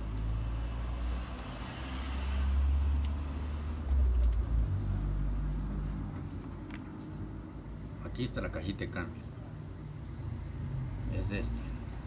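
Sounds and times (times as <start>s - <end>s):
road vehicle passing by: 0.0s - 7.6s, 9.8s - 12.0s.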